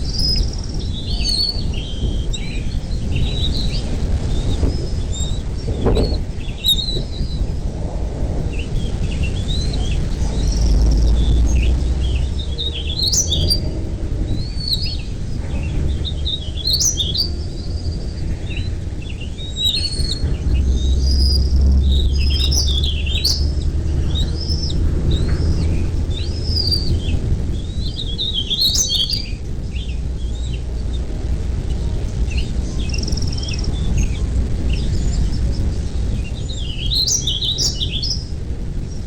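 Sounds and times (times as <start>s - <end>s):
birds chirping: 0.0s - 39.0s
steady low rumble: 0.0s - 39.0s.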